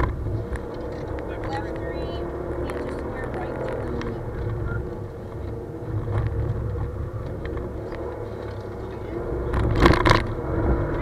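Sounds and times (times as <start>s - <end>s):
car engine drone from cabin: 0.0s - 11.0s.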